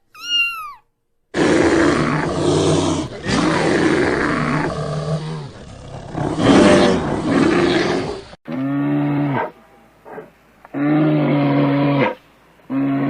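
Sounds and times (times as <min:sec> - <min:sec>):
animal growling calls: 0:01.4 - 0:13.0
low-pitched animal call: 0:01.4 - 0:13.0.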